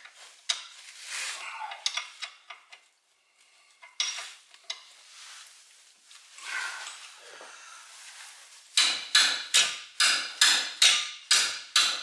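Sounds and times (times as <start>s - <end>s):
hand tools clinking and scraping: 0.0s - 2.8s, 3.5s - 5.6s, 6.3s - 12.0s.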